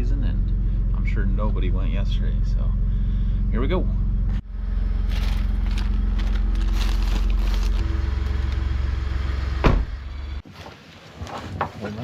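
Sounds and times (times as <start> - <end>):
truck engine humming: 0.0 - 10.4.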